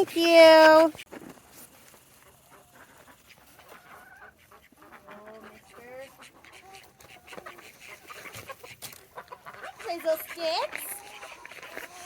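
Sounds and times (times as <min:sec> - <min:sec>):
chickens clucking: 0:00.2 - 0:12.0.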